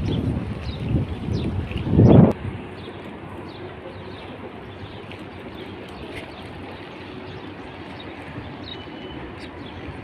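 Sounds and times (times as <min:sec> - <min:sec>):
distant traffic: 0:00.0 - 0:10.0
wind: 0:00.0 - 0:10.0.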